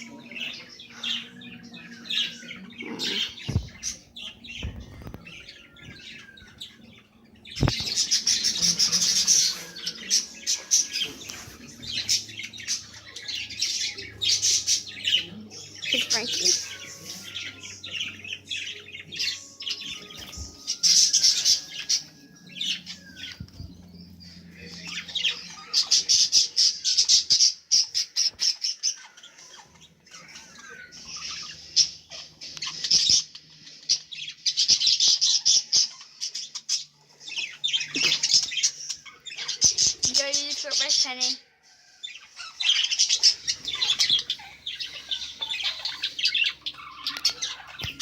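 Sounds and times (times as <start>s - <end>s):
budgerigars chattering and squawking: 0.0s - 48.0s.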